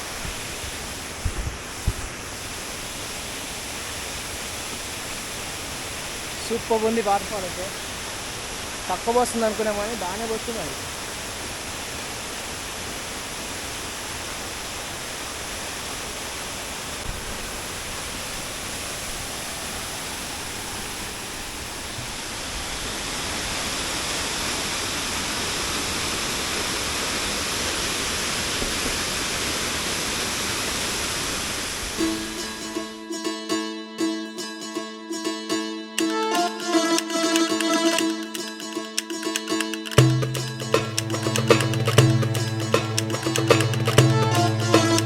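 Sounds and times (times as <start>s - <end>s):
waterfall rushing: 0.0s - 33.0s, 36.2s - 45.0s.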